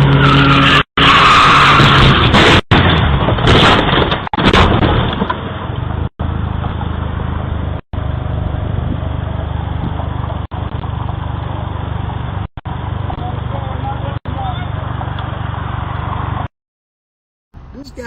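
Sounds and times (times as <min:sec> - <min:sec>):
road and engine noise: 0:00.0 - 0:16.5, 0:17.6 - 0:18.0.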